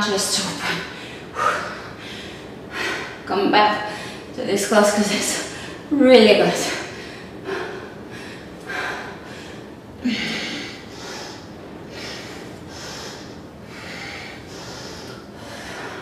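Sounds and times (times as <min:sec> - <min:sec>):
woman breathing hard: 0:00.7 - 0:04.4, 0:06.6 - 0:16.0.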